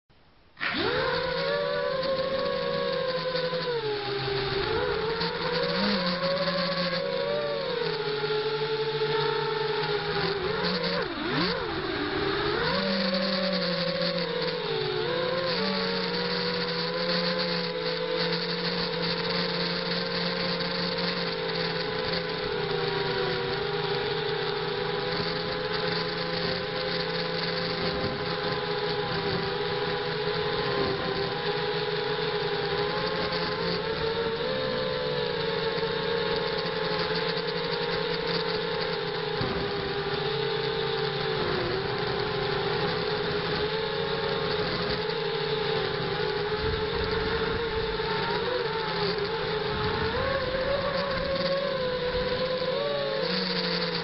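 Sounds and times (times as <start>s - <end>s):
drone motors whining: 0.1s - 54.0s.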